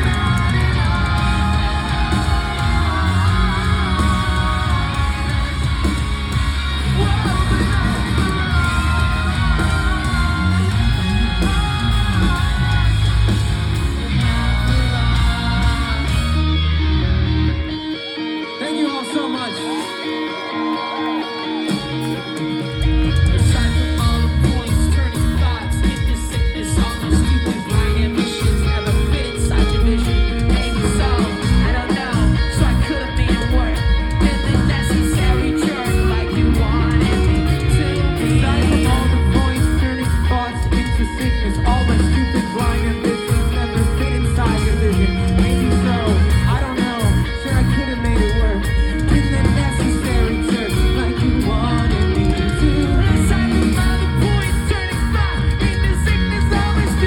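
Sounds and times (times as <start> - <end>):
bass guitar: 0.0 - 18.4, 21.0 - 57.0
drums: 0.0 - 57.0
electric guitars: 0.0 - 57.0
person singing and yelling: 0.0 - 57.0.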